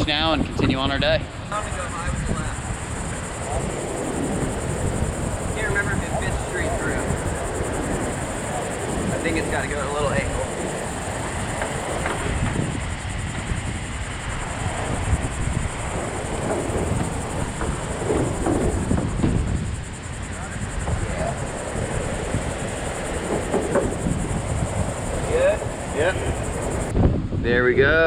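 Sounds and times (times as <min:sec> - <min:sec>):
high insect buzz: 0:00.0 - 0:26.9
wind rumbling on microphone: 0:00.0 - 0:28.0.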